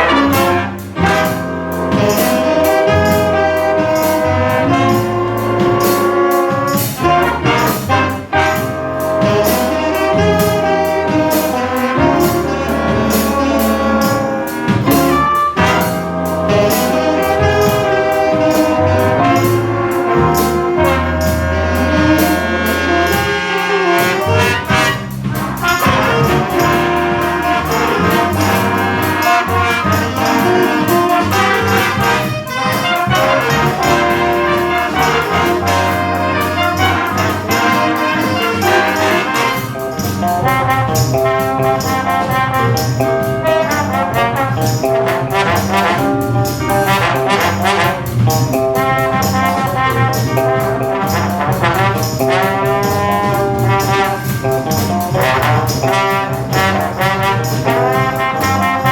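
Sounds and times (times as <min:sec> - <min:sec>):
big band brass: 0:00.0 - 0:58.9
steady drum beat: 0:00.0 - 0:58.9.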